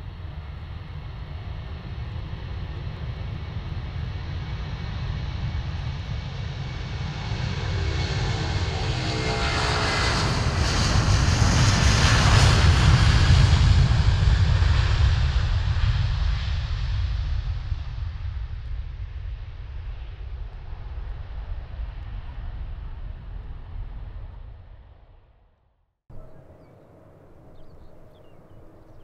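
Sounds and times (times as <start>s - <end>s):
jet airliner passing by: 0.0s - 25.1s, 26.1s - 29.0s.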